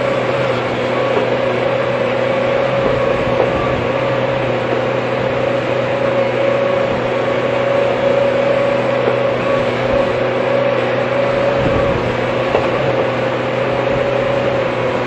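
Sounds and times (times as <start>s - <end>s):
excavator engine drone: 0.0s - 15.0s
steady hum: 0.0s - 15.0s.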